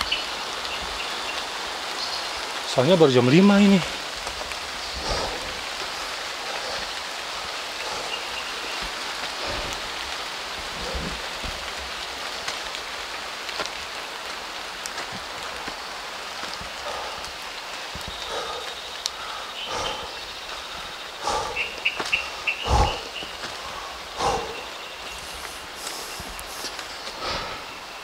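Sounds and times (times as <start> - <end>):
rain falling through trees: 0.0 - 28.0.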